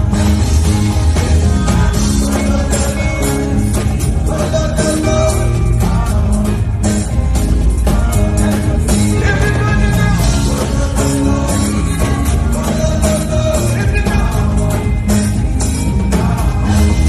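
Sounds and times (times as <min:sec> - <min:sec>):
live afrobeat music: 0:00.0 - 0:17.0
person singing: 0:00.0 - 0:17.0.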